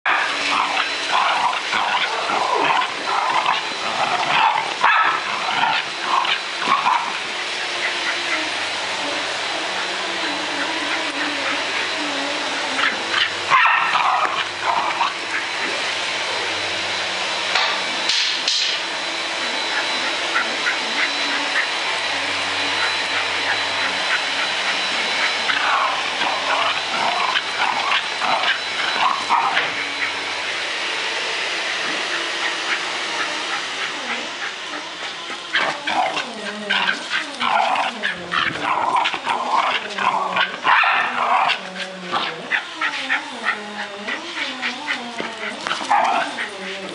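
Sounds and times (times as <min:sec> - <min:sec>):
dog whining and yipping: 0:00.1 - 0:14.4, 0:19.4 - 0:30.7, 0:32.0 - 0:46.9.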